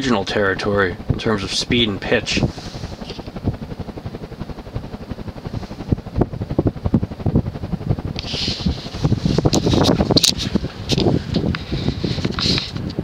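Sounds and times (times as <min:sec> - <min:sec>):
ceiling fan running: 0:00.0 - 0:13.0
wind buffeting microphone: 0:00.0 - 0:13.0.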